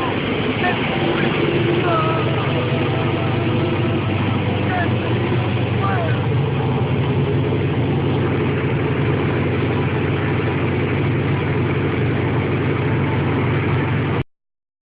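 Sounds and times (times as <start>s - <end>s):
car engine idling: 0.0s - 14.2s.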